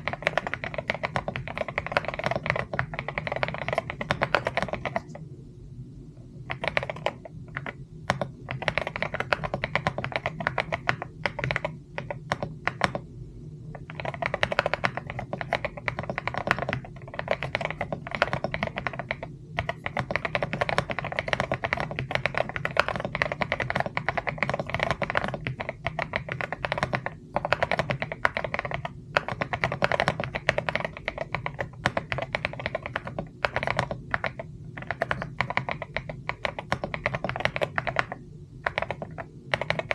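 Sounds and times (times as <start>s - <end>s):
mechanical keyboard typing: 0.0s - 5.2s, 6.4s - 13.0s, 13.7s - 39.9s.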